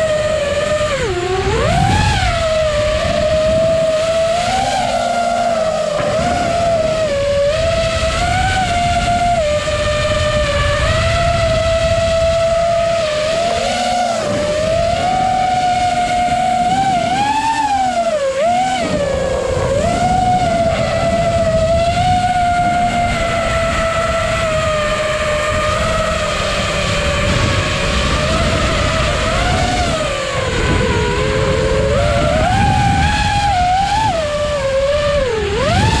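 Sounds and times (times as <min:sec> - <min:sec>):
drone motors whining: 0:00.0 - 0:36.0
rumbling wind noise: 0:00.0 - 0:36.0.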